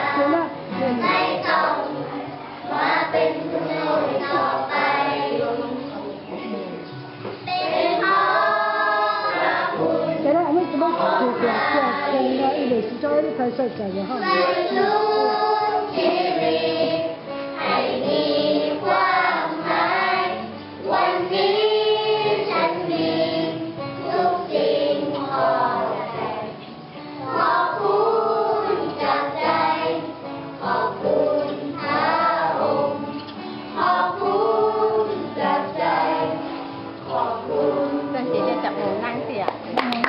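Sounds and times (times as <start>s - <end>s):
children singing together: 0.0s - 10.3s, 10.9s - 12.7s, 14.2s - 38.7s
steady musical accompaniment: 0.0s - 40.0s.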